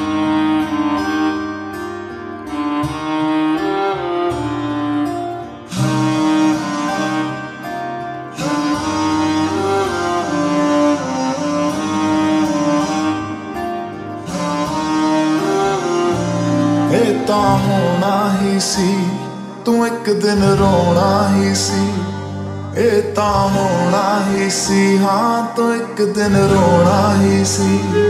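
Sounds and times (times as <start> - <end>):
slowed reverb-heavy pop music: 0.0 - 28.0.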